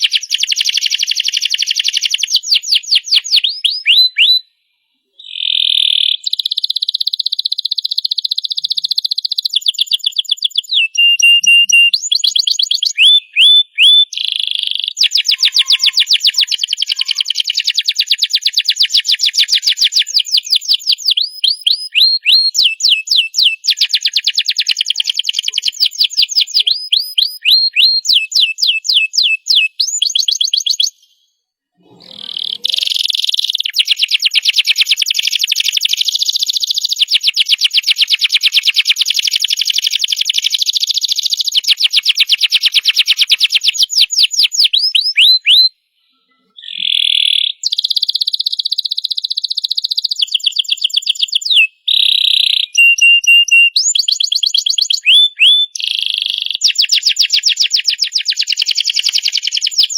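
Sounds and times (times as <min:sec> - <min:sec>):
canary singing trills: 0:00.0 - 0:04.5, 0:05.1 - 0:59.9.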